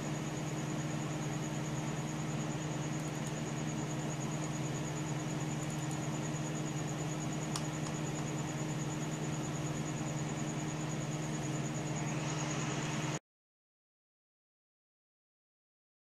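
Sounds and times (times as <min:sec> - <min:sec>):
computer hum and hiss: 0:00.0 - 0:13.2
thin high whine: 0:00.0 - 0:13.2.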